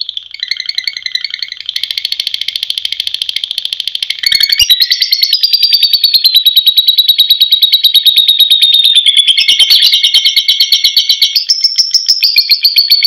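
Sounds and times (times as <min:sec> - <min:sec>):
lovebird chattering trill: 0:00.0 - 0:13.0.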